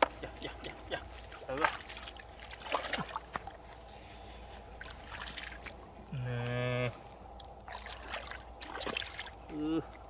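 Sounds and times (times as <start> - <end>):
water sloshing and splashing: 0.0 - 6.1, 7.2 - 10.0.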